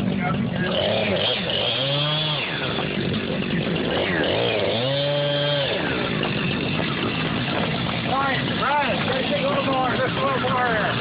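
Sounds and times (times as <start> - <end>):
engine running steadily: 0.0 - 11.0
small engine revving: 0.0 - 11.0.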